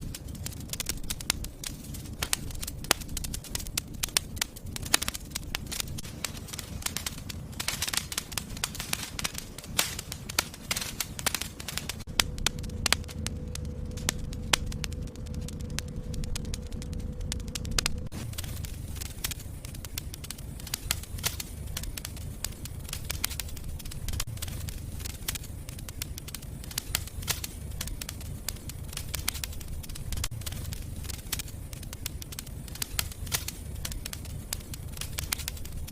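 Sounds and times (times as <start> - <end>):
low rumble of flame: 0.0 - 35.9
sharp pops of fire: 0.0 - 35.9
wood fire crackling: 0.0 - 35.9.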